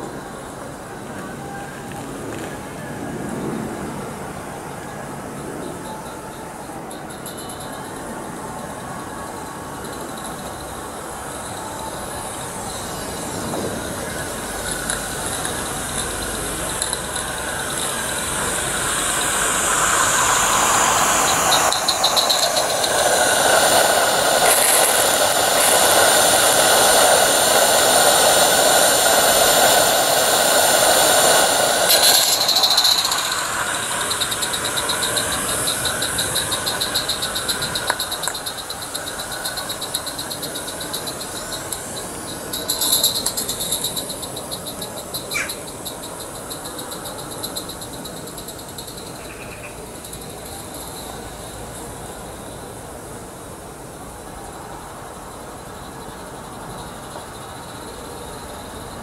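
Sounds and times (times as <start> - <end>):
model steam locomotive chuffing: 0.0 - 59.0
steady high-pitched squeal: 0.0 - 59.0.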